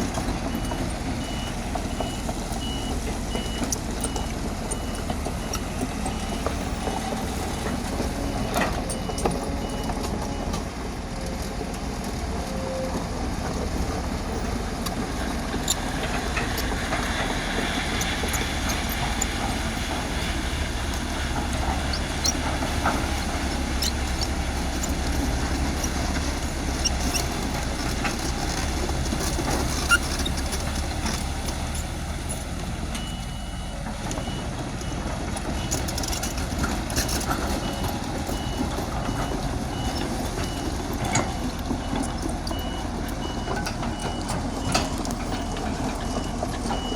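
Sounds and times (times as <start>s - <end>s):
bulldozer diesel engine: 0.0s - 46.9s.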